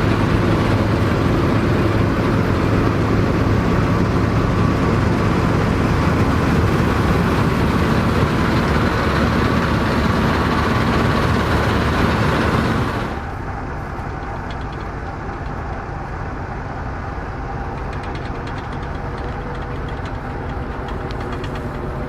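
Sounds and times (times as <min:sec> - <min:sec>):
threshing machinery clatter: 0:00.0 - 0:15.9, 0:17.7 - 0:22.0
combine harvester engine hum: 0:00.0 - 0:22.0.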